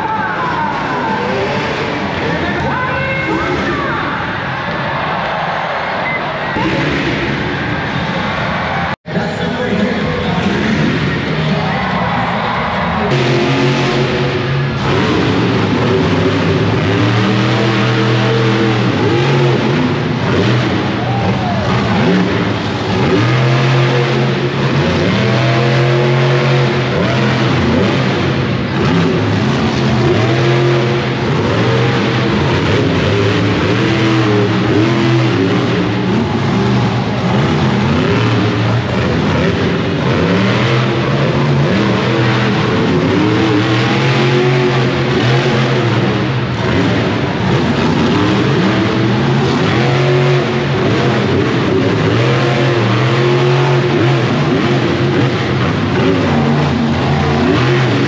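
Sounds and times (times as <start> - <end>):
monster truck engine revving: 0.0 - 58.0.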